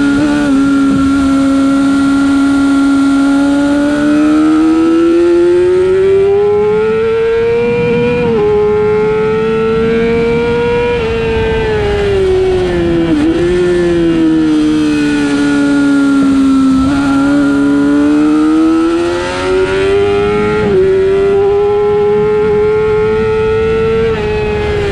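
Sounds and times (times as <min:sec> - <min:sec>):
motorcycle engine at high revs: 0:00.0 - 0:24.9
road noise: 0:00.0 - 0:24.9
rushing wind: 0:00.0 - 0:24.9.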